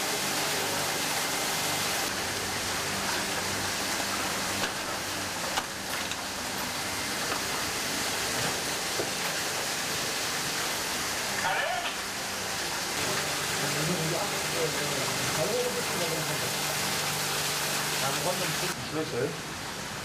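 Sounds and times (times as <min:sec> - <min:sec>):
water rushing into cellar: 0:00.0 - 0:20.0.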